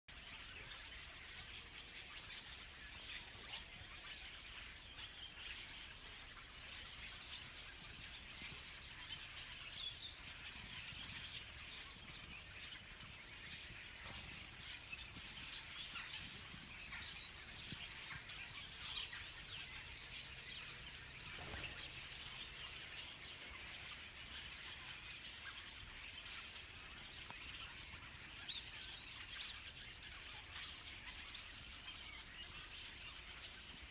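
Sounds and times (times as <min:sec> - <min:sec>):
flock of songbirds chirping: 0:00.0 - 0:33.9.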